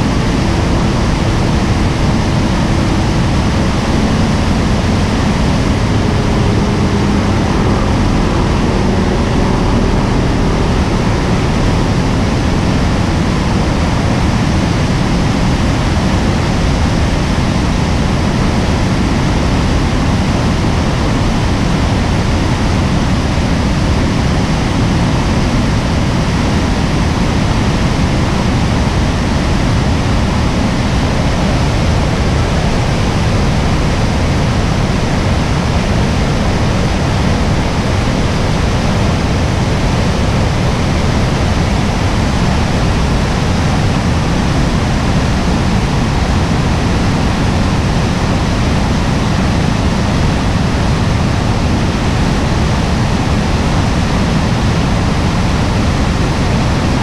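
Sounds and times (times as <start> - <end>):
rapids rushing white water: 0.0 - 57.0.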